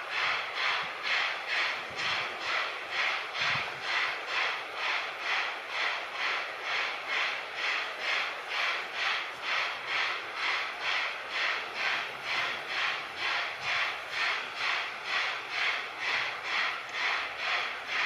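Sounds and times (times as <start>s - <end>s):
steam locomotive chuffing: 0.0s - 18.0s.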